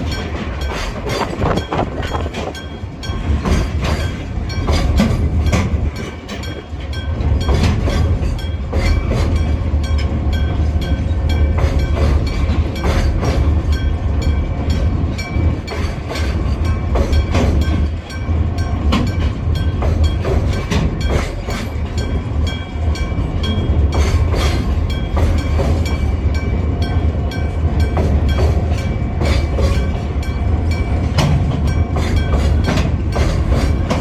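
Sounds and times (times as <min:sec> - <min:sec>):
crossing bell ringing: 0:00.0 - 0:34.0
freight train rumble: 0:00.0 - 0:34.0
wheels clacking over rail joints: 0:00.0 - 0:34.0.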